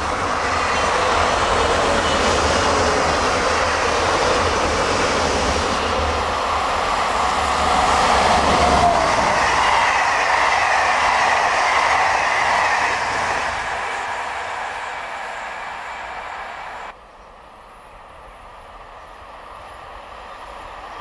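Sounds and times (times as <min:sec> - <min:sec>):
locomotive whining tone: 0:00.0 - 0:16.9
commuter train rumbling: 0:00.0 - 0:21.0
electric locomotive passing: 0:00.0 - 0:21.0.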